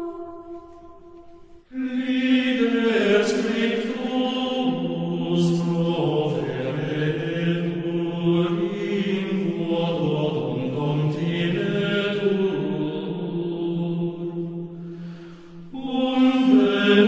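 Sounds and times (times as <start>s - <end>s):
choir chanting: 0.0s - 17.0s.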